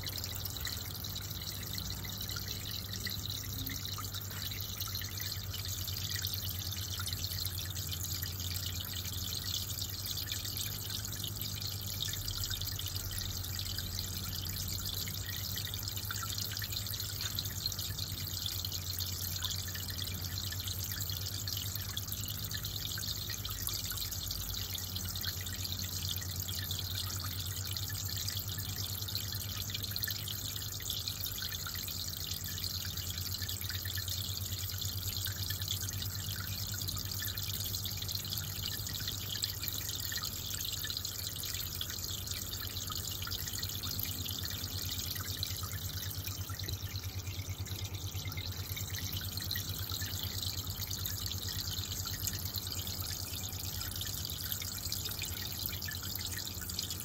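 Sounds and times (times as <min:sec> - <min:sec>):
aquarium water trickling: 0:00.0 - 0:57.0
low steady hum: 0:00.0 - 0:57.0.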